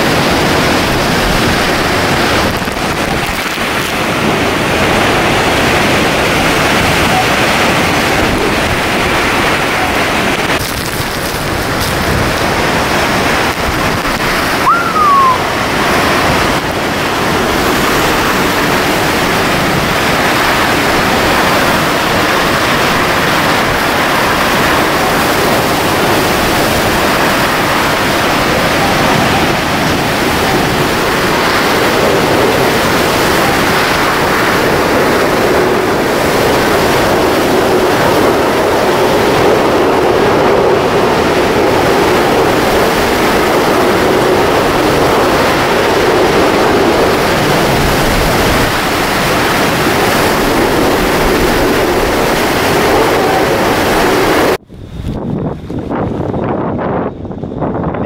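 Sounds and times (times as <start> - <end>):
strong wind and driving rain: 0.0 - 58.0.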